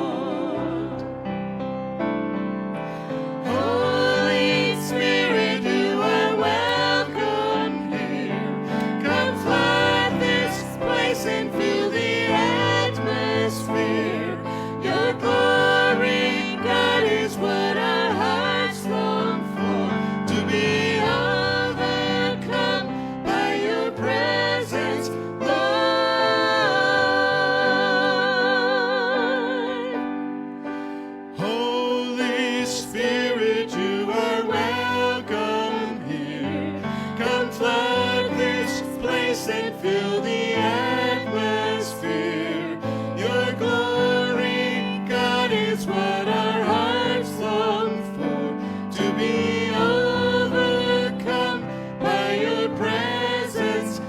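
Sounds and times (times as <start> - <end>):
person singing gospel: 0.0 - 1.2, 2.9 - 54.0.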